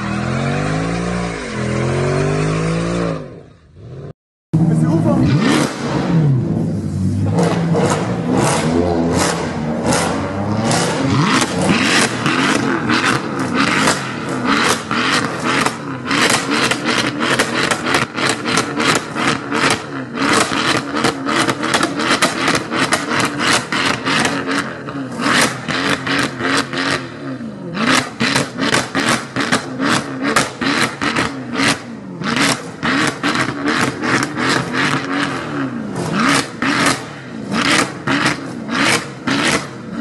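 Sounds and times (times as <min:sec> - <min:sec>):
car engine revving in blips: 0:00.0 - 0:40.0.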